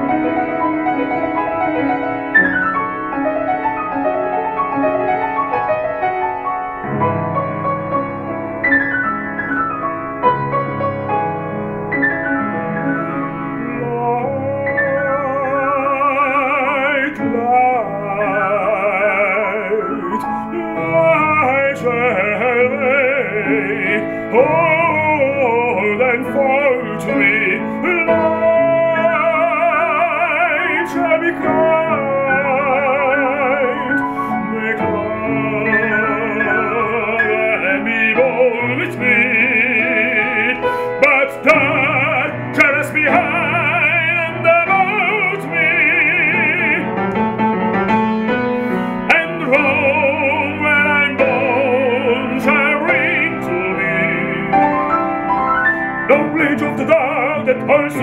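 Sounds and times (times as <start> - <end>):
baritone singing opera: 0.0 - 3.6, 12.0 - 47.5, 48.6 - 58.0
grand piano: 0.0 - 58.0.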